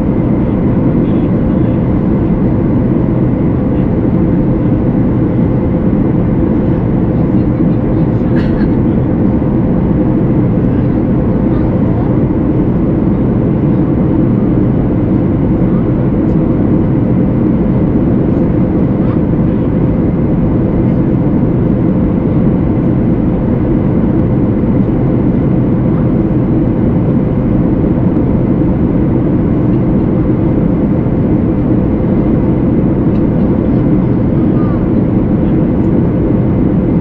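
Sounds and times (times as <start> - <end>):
airplane cabin engine rumble: 0.0 - 37.0.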